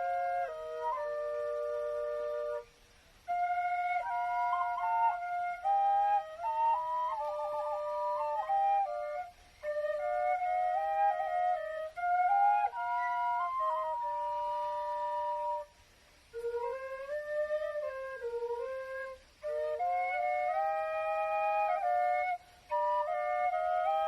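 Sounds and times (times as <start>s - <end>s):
two flutes playing slow melody: 0.0s - 24.0s.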